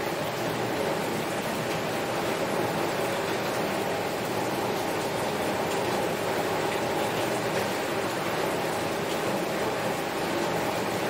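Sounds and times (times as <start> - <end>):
heavy rain on window glass: 0.0 - 11.0.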